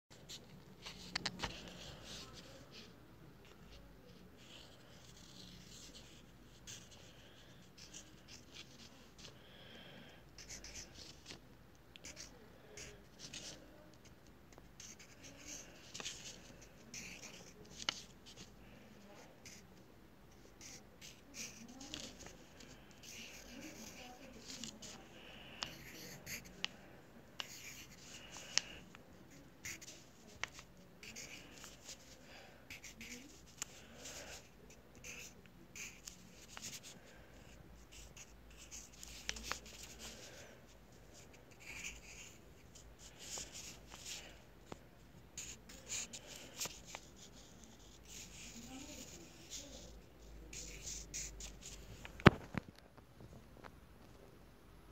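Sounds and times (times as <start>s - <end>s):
pencil writing on paper: 4.4s - 9.7s, 10.4s - 11.4s, 12.0s - 19.6s, 20.3s - 26.8s, 27.4s - 44.4s, 45.4s - 51.8s.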